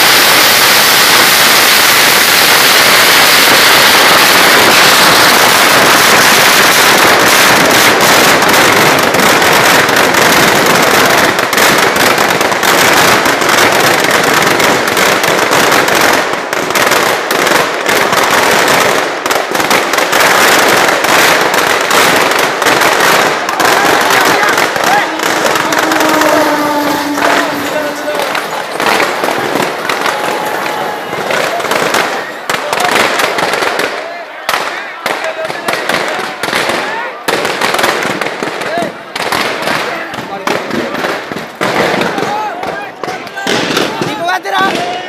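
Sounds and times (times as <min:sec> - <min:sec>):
firecracker sharp bangs: 0:00.0 - 0:45.0
firecrackers crackling: 0:00.0 - 0:45.0.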